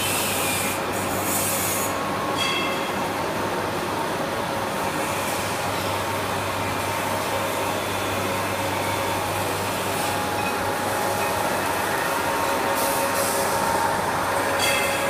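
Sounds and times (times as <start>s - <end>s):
metal-cutting machine tools running: 0.0s - 15.0s.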